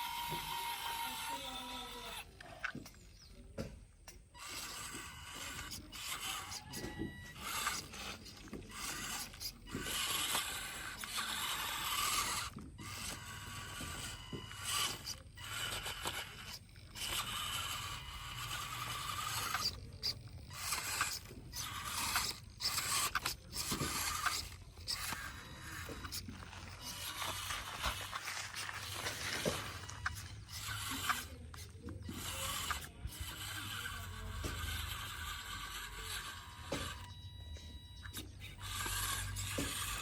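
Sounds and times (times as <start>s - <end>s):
toy electric motor whirring: 0.0s - 40.0s.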